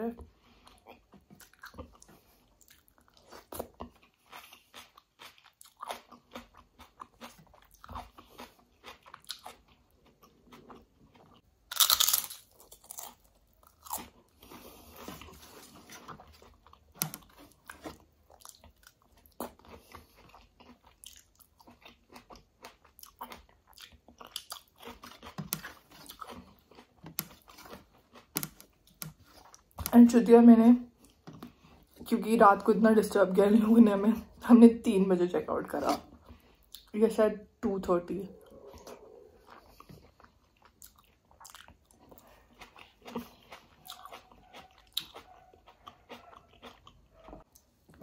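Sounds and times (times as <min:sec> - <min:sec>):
chewing and crunching: 0:00.0 - 0:34.5, 0:35.6 - 0:37.0, 0:38.2 - 0:48.0.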